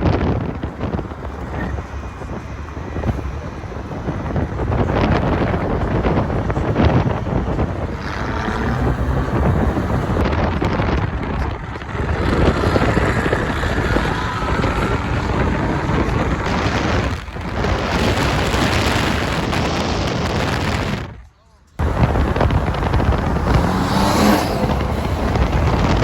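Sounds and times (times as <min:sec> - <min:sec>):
car engines running loudly: 0:00.0 - 0:26.0
wind buffeting microphone: 0:00.0 - 0:26.0.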